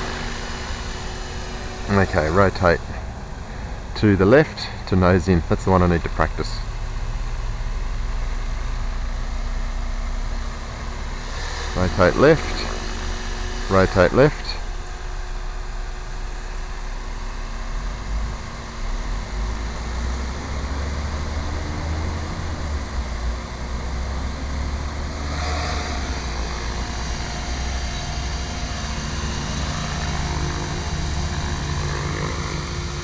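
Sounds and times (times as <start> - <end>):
radio-controlled helicopter rotor: 0.0 - 33.0.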